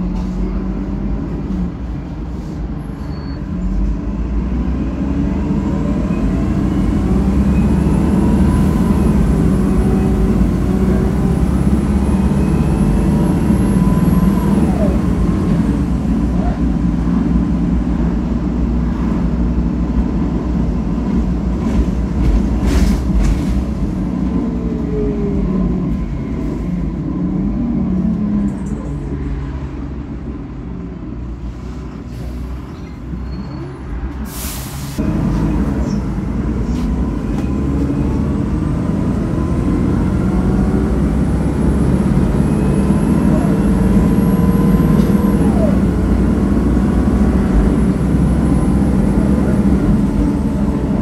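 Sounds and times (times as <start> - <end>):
bus engine drone with whine: 0.0 - 51.0
rattles inside bus: 0.0 - 51.0.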